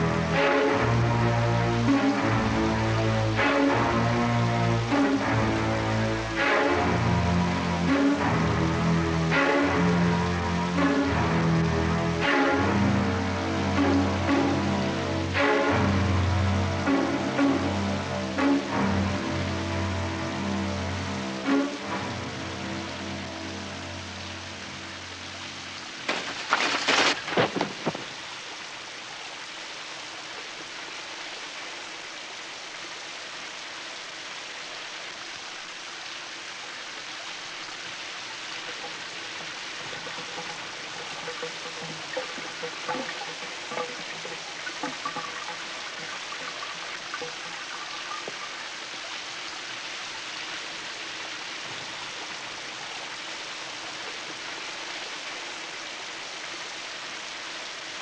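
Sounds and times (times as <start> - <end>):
shower water spattering: 0.0 - 29.0, 37.3 - 56.4
faint water gurgles: 0.0 - 58.0.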